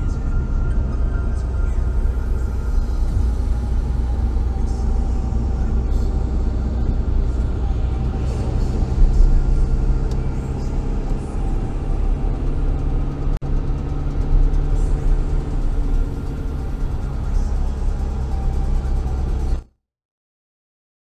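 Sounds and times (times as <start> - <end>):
car engine and tyre drone: 0.0 - 19.7.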